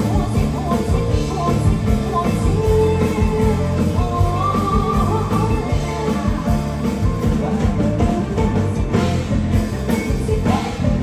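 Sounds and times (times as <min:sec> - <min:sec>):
live band music: 0:00.0 - 0:11.0
person singing: 0:00.0 - 0:11.0.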